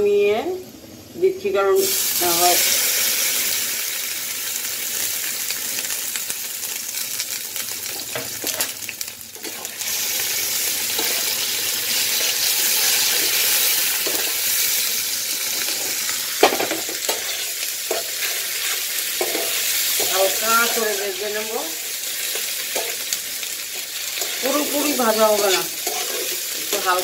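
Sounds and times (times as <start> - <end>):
paste sizzling in hot oil: 1.8 - 27.0.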